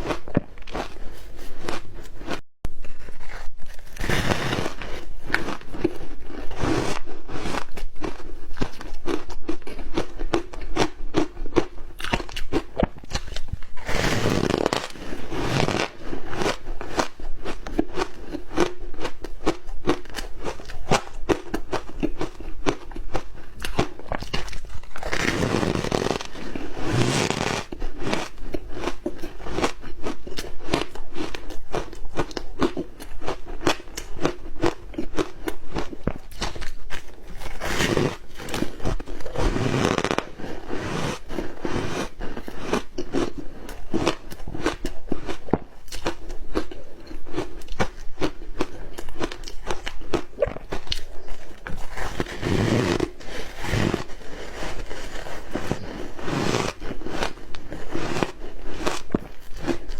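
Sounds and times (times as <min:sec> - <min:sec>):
crunchy bites: 0:00.0 - 0:02.4, 0:03.0 - 0:59.9
ice being chewed: 0:00.0 - 0:59.9.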